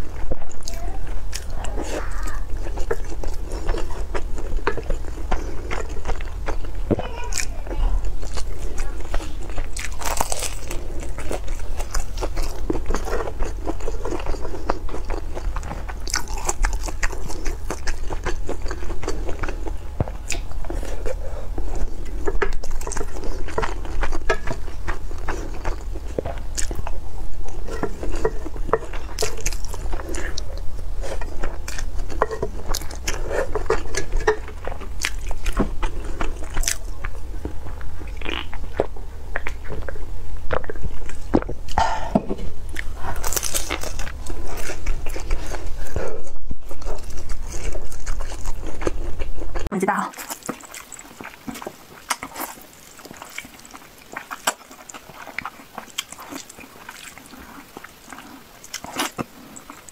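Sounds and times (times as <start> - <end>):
crispy crumbs crunching: 0.0 - 59.9
person chewing food: 0.0 - 59.9.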